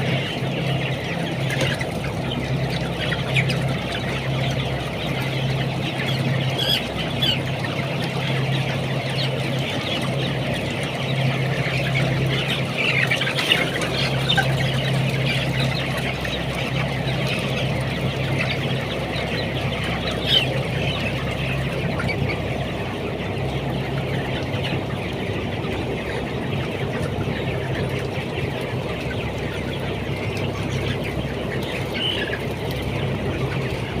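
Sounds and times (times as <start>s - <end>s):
chickens clucking and chirping: 0.0s - 34.0s.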